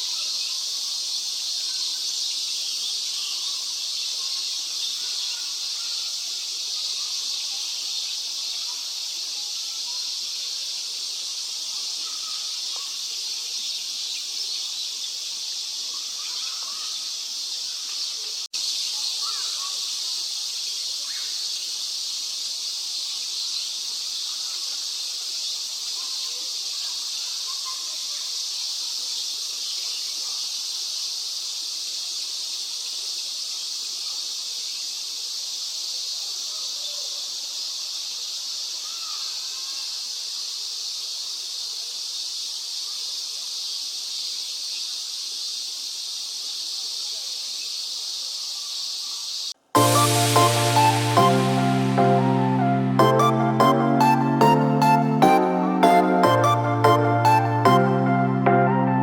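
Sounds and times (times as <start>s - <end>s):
high-pitched outdoor hiss: 0.0s - 59.0s.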